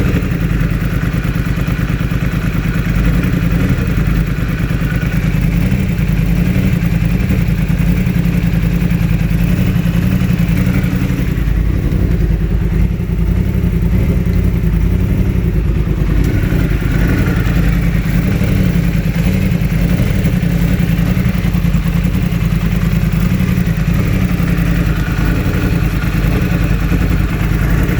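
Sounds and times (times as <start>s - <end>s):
motorcycle engine misfiring: 0.0s - 27.9s.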